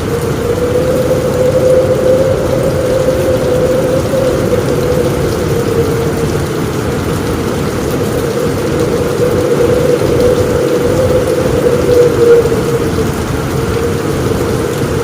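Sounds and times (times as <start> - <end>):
heavy rain on a roof: 0.0 - 15.0
thunder rumbling: 0.0 - 15.0.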